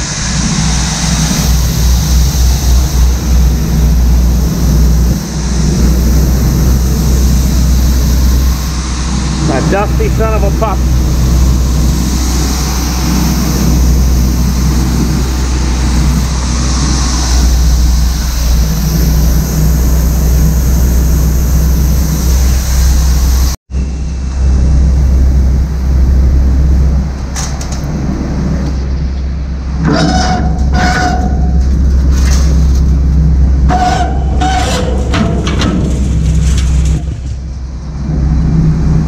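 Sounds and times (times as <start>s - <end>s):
low machinery drone: 0.0s - 39.0s.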